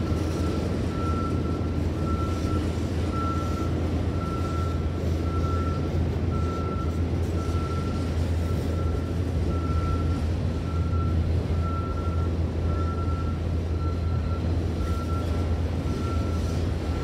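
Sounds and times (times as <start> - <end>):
train rumble and wheel noise: 0.0 - 17.0.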